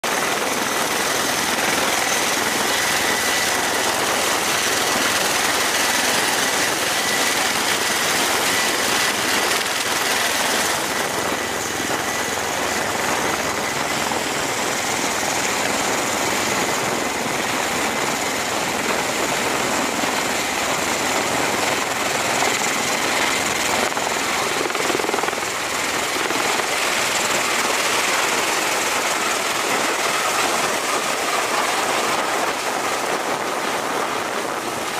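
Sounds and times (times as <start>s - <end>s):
rotor and turbine noise: 0.0s - 34.9s.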